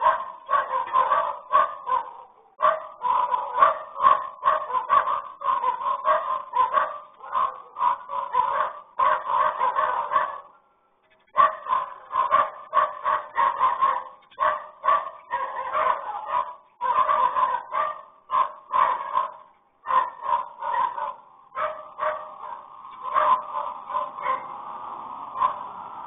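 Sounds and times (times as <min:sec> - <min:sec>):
dog barking: 0:00.0 - 0:10.6, 0:11.2 - 0:24.6, 0:25.3 - 0:25.7.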